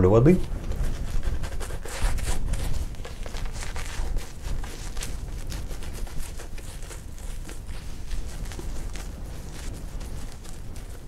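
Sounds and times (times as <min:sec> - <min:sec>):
shaving brush swishing lather: 0:00.7 - 0:11.0.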